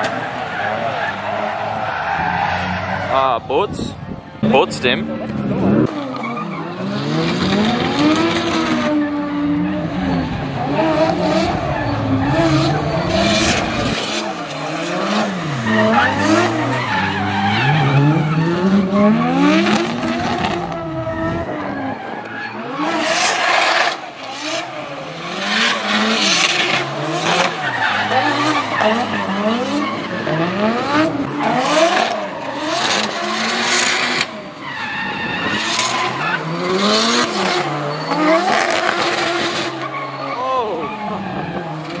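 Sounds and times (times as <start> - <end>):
car engines revving: 0.0 - 42.0
tyres squealing and skidding: 0.0 - 42.0.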